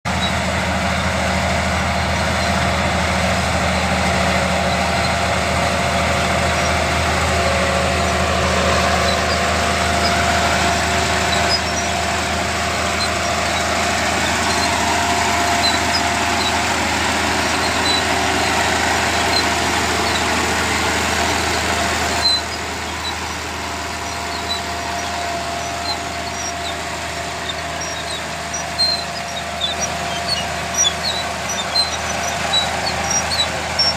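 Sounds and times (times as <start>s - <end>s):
bulldozer diesel engine droning: 0.0s - 33.9s.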